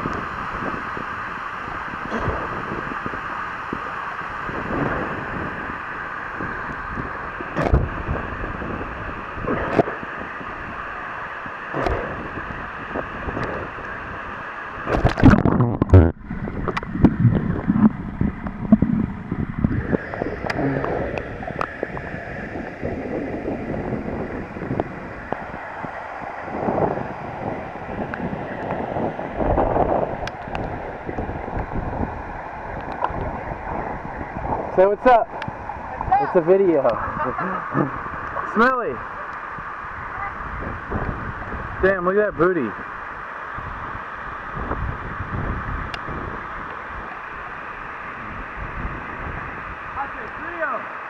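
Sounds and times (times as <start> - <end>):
wind buffeting microphone: 0.0 - 11.1, 11.7 - 50.7
waterfall rushing into pool: 0.0 - 51.0.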